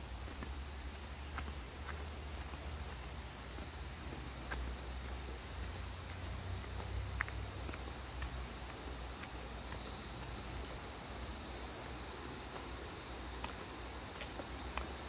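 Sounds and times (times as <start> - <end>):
insects droning: 0.0 - 15.0
footsteps on dirt: 0.1 - 15.0.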